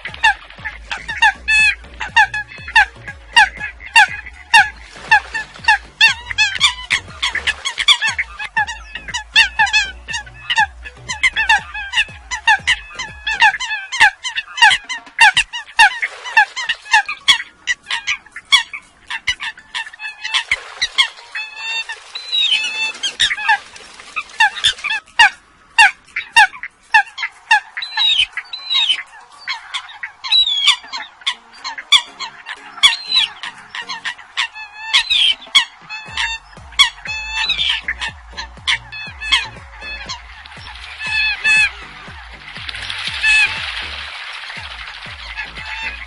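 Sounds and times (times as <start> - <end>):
coots calling: 0.0 - 46.0.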